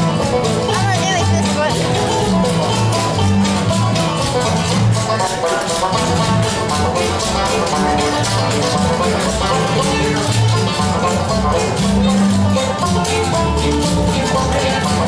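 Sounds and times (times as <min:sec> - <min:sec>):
acoustic guitar: 0:00.0 - 0:15.0
banjo picking: 0:00.0 - 0:15.0
fiddle bowing: 0:00.0 - 0:15.0
upright bass: 0:00.0 - 0:15.0.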